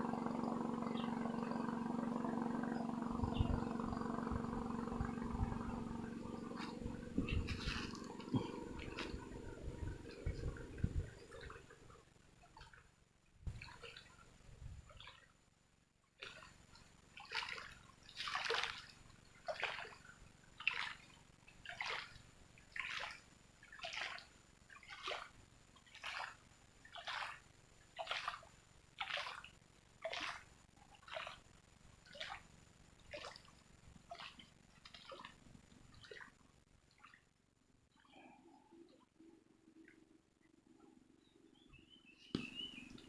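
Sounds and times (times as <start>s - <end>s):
water splashing rhythmically: 0.0s - 15.4s, 16.2s - 37.3s, 42.4s - 43.0s.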